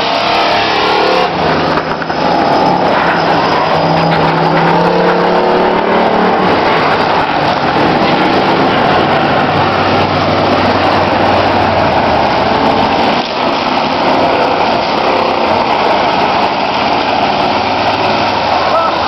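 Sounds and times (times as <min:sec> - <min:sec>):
car engines running hard: 0:00.0 - 0:19.0.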